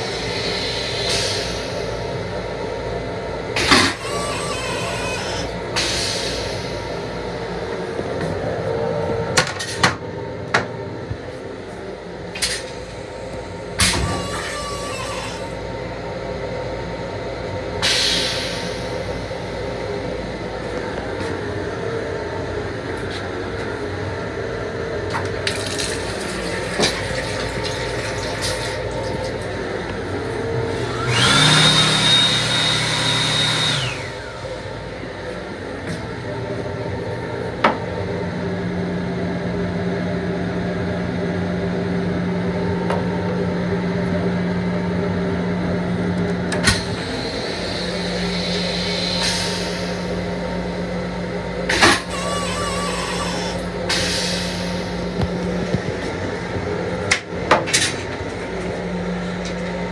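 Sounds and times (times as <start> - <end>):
train running noise inside: 0.0 - 59.9.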